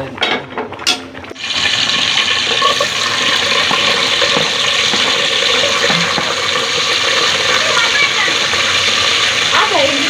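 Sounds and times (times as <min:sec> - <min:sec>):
onions sizzling in hot oil: 0:01.3 - 0:10.0.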